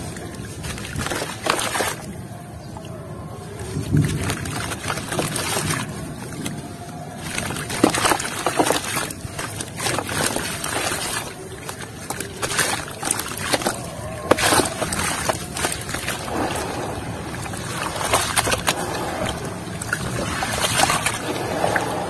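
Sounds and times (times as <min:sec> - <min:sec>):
soil crunching and crackling: 0:00.0 - 0:22.0
water sloshing and splashing: 0:00.0 - 0:22.0.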